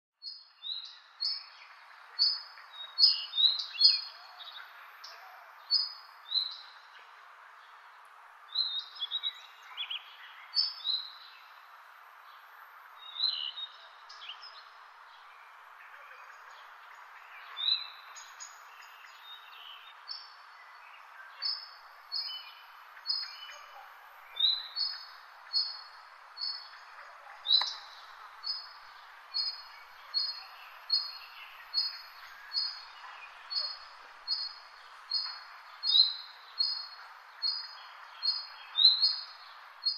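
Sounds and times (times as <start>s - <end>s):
small songbird chirping: 0.2s - 39.9s.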